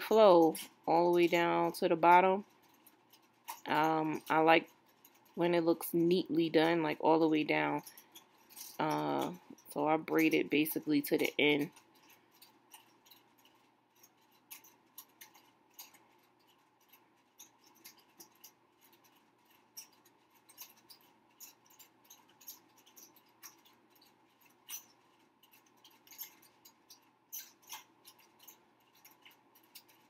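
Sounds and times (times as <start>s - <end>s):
fingernails clicking on braiding hair: 0.0s - 30.0s.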